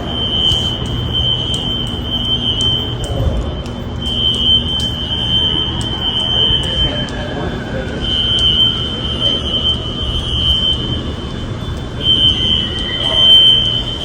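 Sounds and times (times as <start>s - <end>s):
fire alarm horns: 0.0s - 14.0s.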